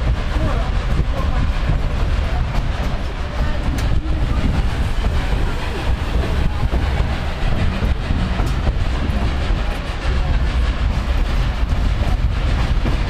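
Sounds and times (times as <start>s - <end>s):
rail joint clicks: 0.0s - 13.0s
train wheels rumbling on rail: 0.0s - 13.0s.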